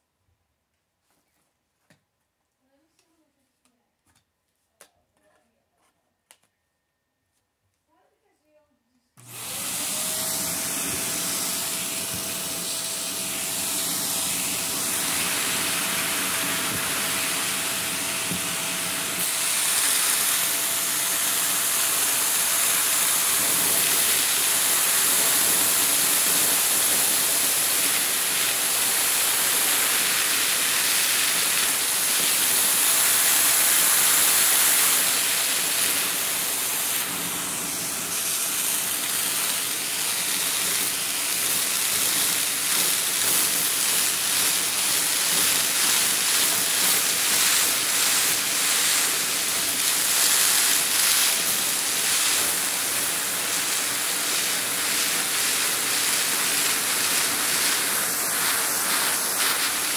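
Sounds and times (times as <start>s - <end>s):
vacuum cleaner running: 9.2s - 59.9s.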